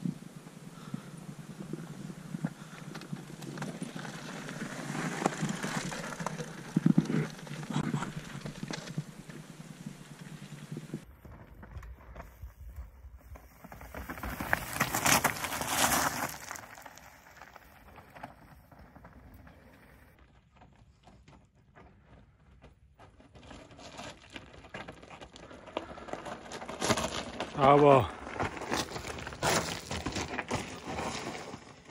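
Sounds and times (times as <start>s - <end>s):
bike tyres crunching on gravel: 0.3s - 20.8s, 23.1s - 31.9s.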